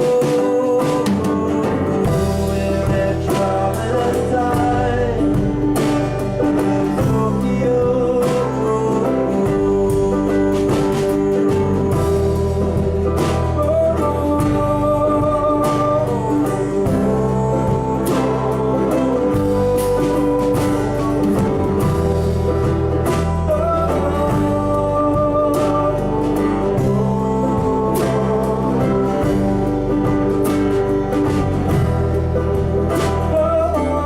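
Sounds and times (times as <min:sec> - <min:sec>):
guitar: 0:00.0 - 0:34.0
live band playing: 0:00.0 - 0:34.0.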